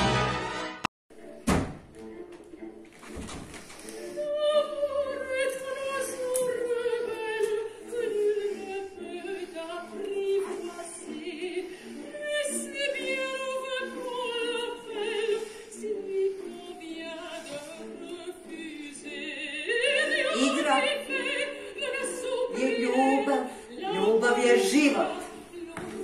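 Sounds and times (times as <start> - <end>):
operatic singing with vibrato: 3.9 - 26.0.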